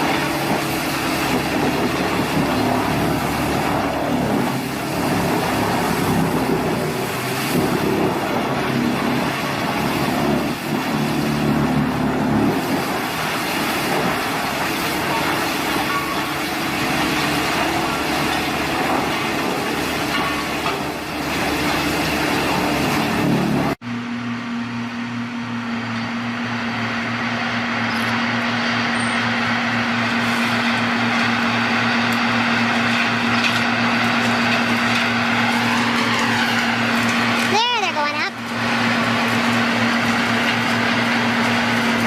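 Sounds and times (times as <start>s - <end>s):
heavy machine engine drone: 0.0s - 42.0s.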